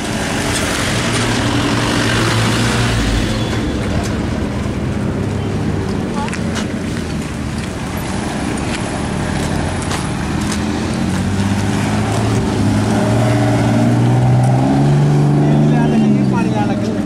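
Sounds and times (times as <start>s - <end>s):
car engines driving past: 0.0s - 17.0s.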